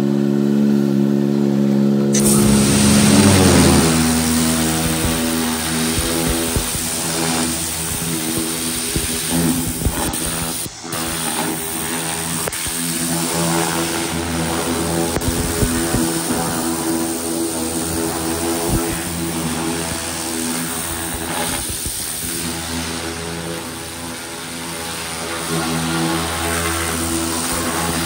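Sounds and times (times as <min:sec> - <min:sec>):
pressure washer engine drone: 0:00.0 - 0:28.0
pressure washer spray hissing: 0:02.2 - 0:28.0.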